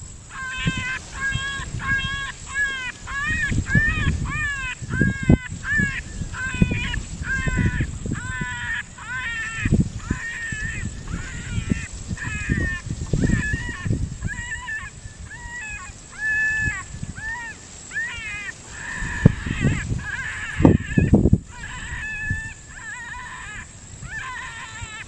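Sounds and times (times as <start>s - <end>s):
wind rumble on microphone: 0.0s - 25.0s
electronic coyote yelps: 0.3s - 25.0s.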